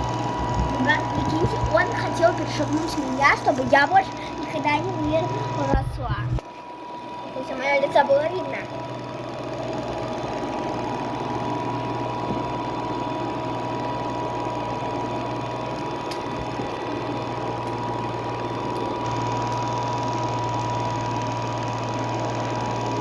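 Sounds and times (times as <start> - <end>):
robot vacuum cleaner running: 0.0 - 23.0.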